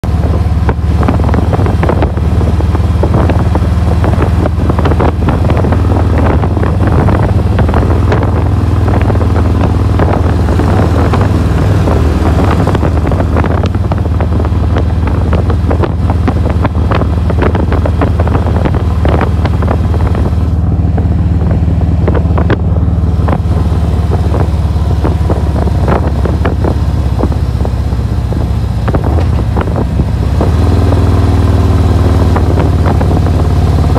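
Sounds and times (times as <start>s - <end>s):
motorcycle engine running: 0.0s - 33.9s
wind buffeting microphone: 0.0s - 33.9s.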